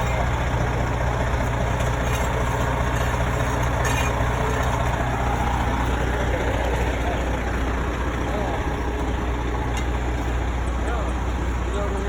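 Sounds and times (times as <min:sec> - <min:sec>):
fire engine idling: 0:00.0 - 0:12.0.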